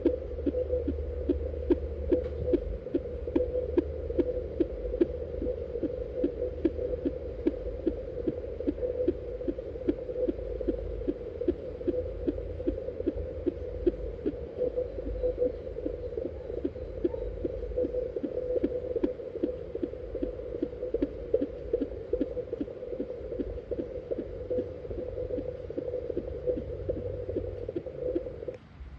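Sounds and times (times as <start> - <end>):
fetal heartbeat pulse: 0.0 - 28.5
low rumble and hum: 0.0 - 28.9.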